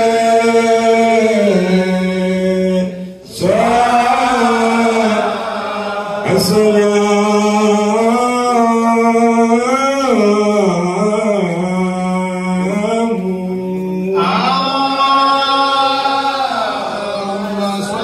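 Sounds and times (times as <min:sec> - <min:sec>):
man chanting through microphone: 0:00.0 - 0:18.0.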